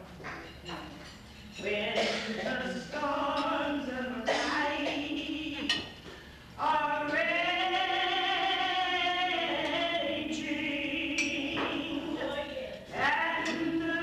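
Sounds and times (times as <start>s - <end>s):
woman singing: 1.6s - 5.9s, 6.6s - 14.0s.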